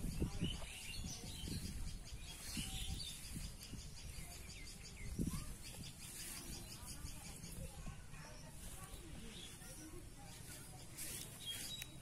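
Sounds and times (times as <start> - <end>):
low rumbling microphone noise: 0.0 - 11.8
small birds chirping: 0.0 - 12.0.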